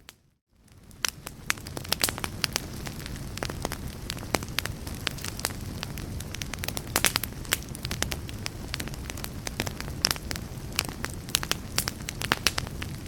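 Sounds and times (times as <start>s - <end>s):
fire crackling: 0.5s - 13.0s.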